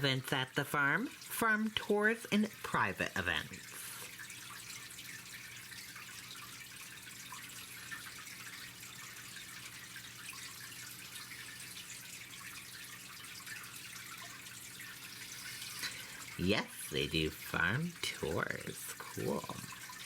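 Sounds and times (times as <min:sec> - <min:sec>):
faint electrical hum: 0:00.0 - 0:20.0
low background hiss: 0:00.0 - 0:20.0.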